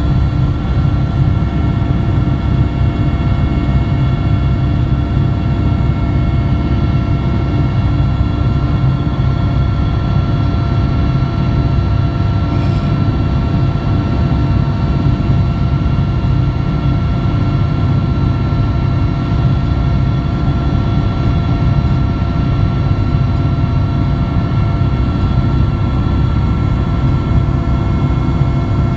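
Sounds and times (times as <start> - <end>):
aircraft engine drone: 0.0 - 28.9
constant engine whine: 0.0 - 28.9.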